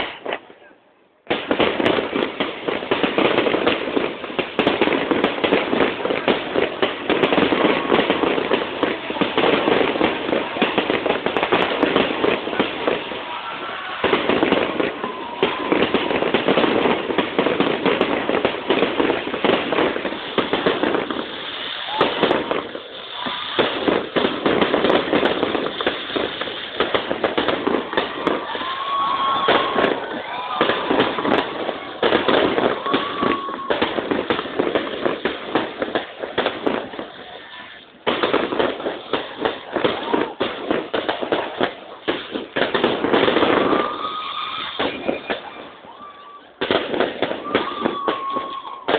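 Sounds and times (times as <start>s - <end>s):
fireworks crackling and popping: 0.0s - 48.9s.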